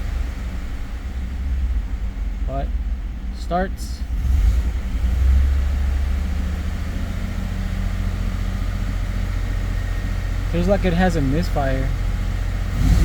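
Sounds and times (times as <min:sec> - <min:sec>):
engine idling rough with misfire: 0:00.0 - 0:13.0.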